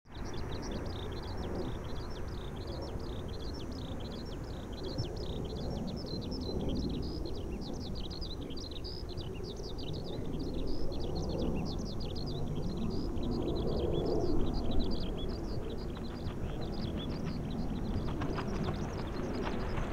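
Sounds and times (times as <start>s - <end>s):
distant jet roar: 0.2s - 19.9s.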